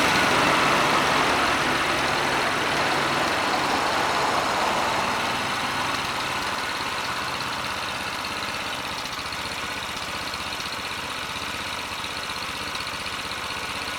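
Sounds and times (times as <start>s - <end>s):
small motorcycle engine idling: 0.0s - 13.9s.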